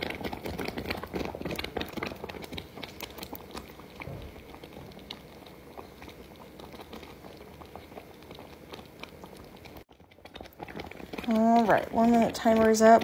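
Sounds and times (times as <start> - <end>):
water boiling in a saucepan: 0.0 - 13.0.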